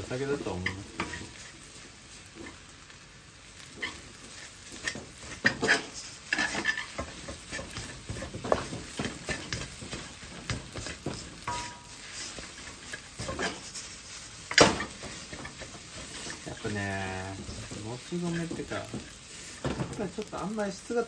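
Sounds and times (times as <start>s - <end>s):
rice sizzling: 0.0s - 21.0s
spatula scraping a wok: 0.1s - 2.8s, 3.4s - 20.6s.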